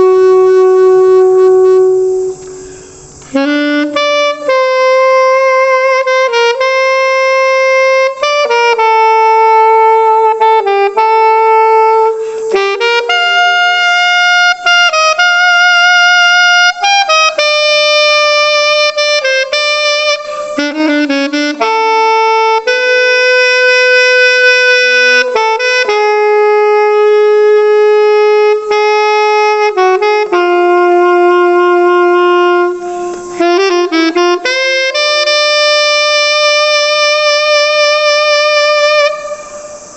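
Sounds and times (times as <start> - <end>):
solo alto saxophone melody: 0.0 - 39.9.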